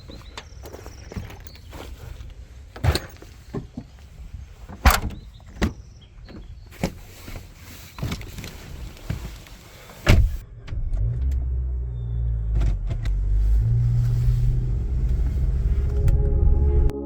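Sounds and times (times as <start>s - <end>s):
car rumbling: 0.0s - 17.0s.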